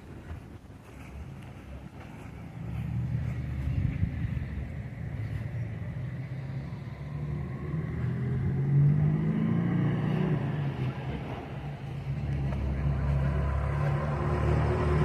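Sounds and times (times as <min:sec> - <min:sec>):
car engine driving past: 0:02.4 - 0:15.0.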